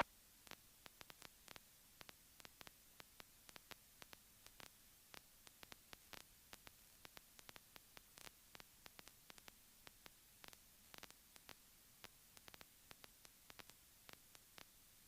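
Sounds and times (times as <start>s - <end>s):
faint irregular clicks: 0.0s - 15.0s
faint steady hiss: 0.0s - 15.0s.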